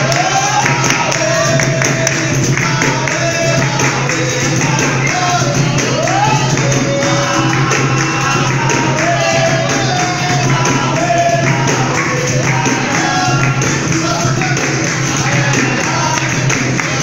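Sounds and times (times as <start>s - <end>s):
atabaque drum: 0.0s - 17.0s
group singing: 0.0s - 17.0s
hand-clapping: 0.0s - 17.0s.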